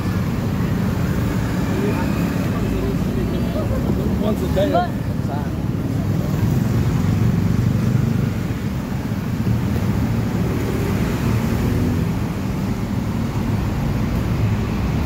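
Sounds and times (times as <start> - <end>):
motorcycle engines: 0.0 - 15.0.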